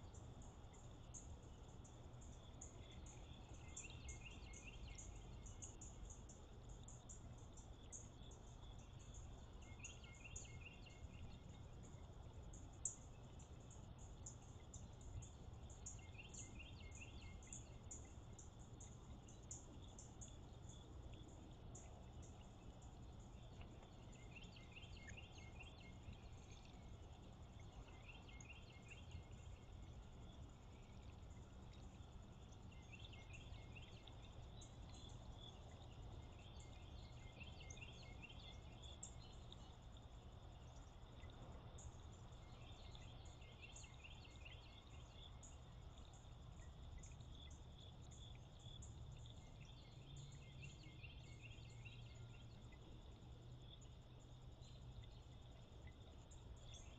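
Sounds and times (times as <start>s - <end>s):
songbird chirping: 0.0s - 56.9s
steady low hum: 0.0s - 56.9s.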